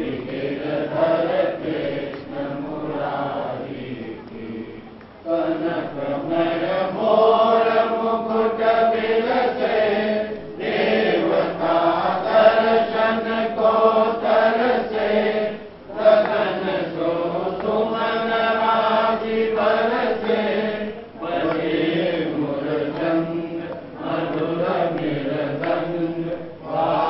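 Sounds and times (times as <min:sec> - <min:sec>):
voices chanting in unison: 0:00.0 - 0:27.0.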